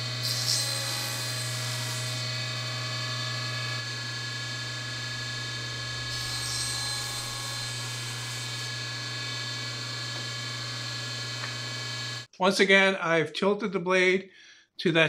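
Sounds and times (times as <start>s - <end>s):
saw blade cutting wood: 0.0s - 12.3s
table saw motor humming: 0.0s - 12.3s.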